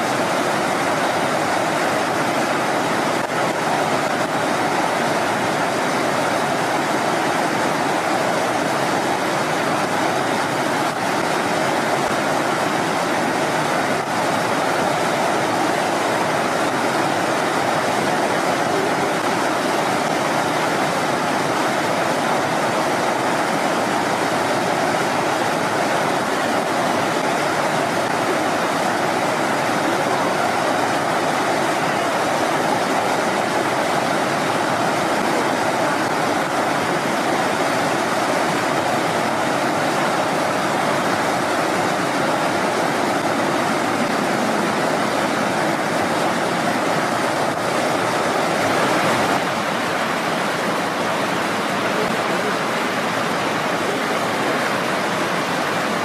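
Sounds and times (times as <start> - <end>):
stream water rushing over rocks: 0.0 - 56.0.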